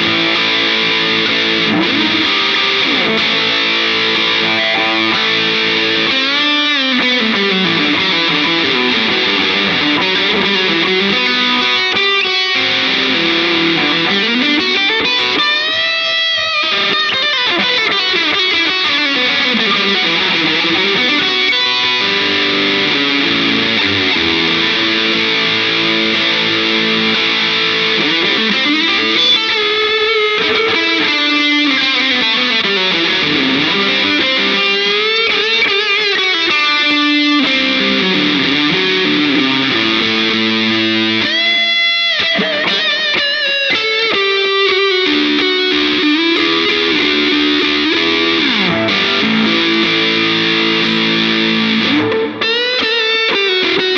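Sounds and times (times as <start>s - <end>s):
overdriven electric guitar: 0.0s - 53.9s.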